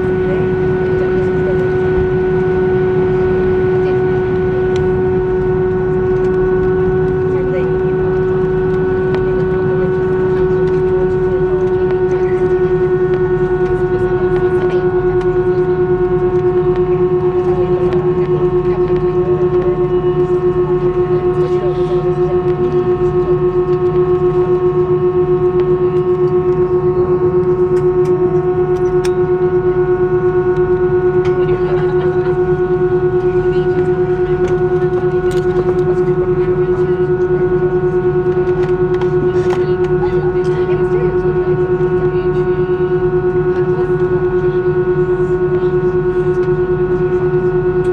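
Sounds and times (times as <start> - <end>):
jet engines idling in cabin: 0.0 - 47.9.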